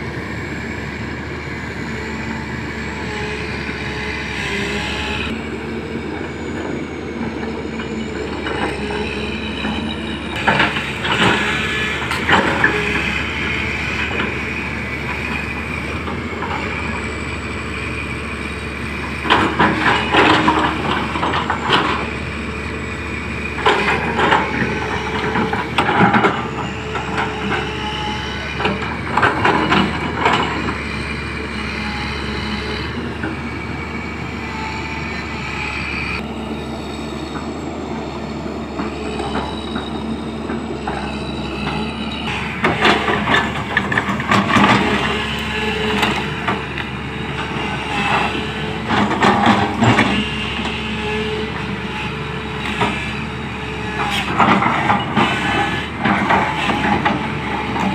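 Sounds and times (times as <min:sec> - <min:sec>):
excavator diesel engine running: 0:00.0 - 0:57.9
high hydraulic whine: 0:00.0 - 0:57.9.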